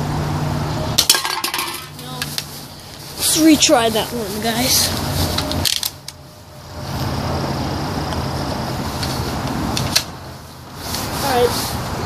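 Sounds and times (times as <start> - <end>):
vehicle rumbling past: 0.0 - 12.0.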